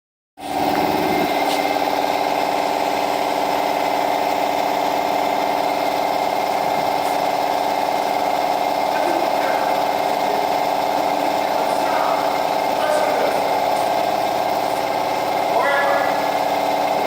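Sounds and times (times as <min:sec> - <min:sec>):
machine motor buzzing: 0:00.4 - 0:17.0.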